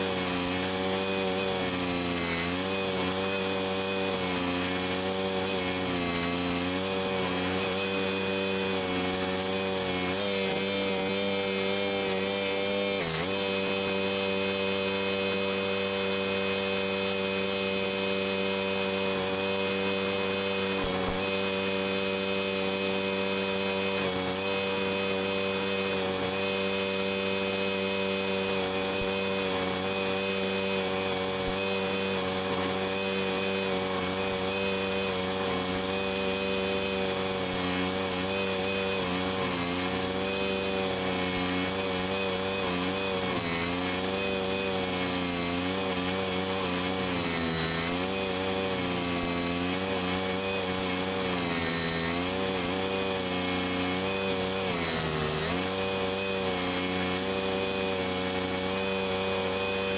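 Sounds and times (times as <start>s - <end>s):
stump grinder engine running: 0.0s - 59.9s.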